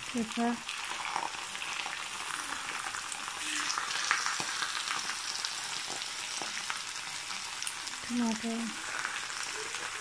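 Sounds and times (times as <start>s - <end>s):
eggs sizzling in a pan: 0.0s - 10.0s.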